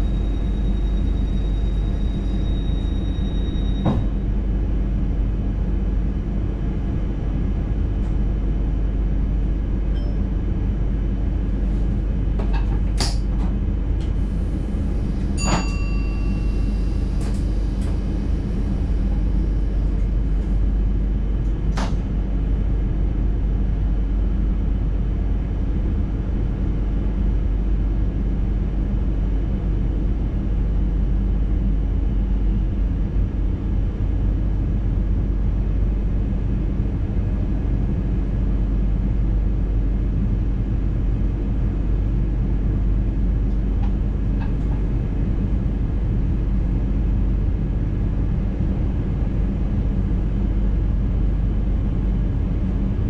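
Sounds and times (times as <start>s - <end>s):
train wheels rumbling on rails: 0.0s - 8.9s, 11.0s - 53.0s.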